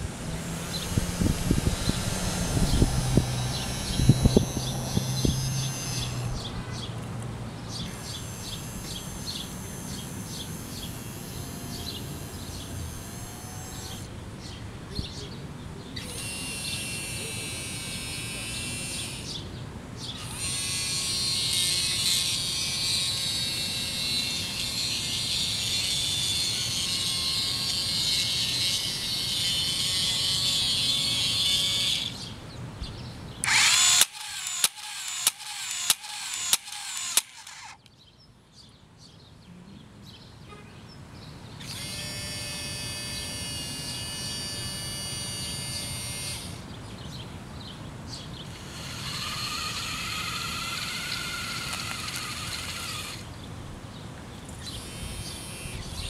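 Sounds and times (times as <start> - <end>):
small motors whining: 0.0 - 14.1, 16.0 - 32.3, 33.4 - 37.9, 41.6 - 46.8, 48.4 - 53.4, 54.5 - 56.0.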